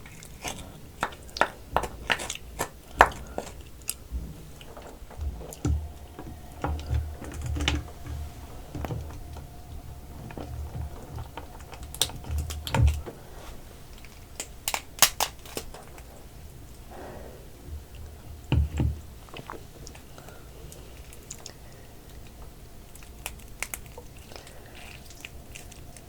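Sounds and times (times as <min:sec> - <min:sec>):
crab shell cracking: 0:00.0 - 0:16.4, 0:18.7 - 0:26.0
wet chewing: 0:00.0 - 0:26.0.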